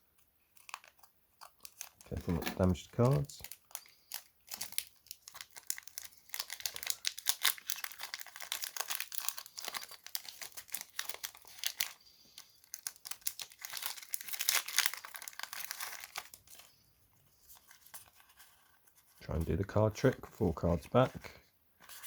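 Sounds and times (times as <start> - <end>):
foil wrappers crinkling: 0.5 - 16.8, 17.4 - 21.1.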